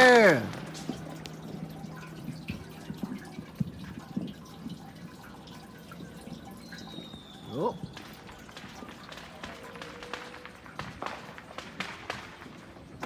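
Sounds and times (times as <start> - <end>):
low steady hum: 0.0 - 12.8
distant fireworks popping: 0.0 - 13.0.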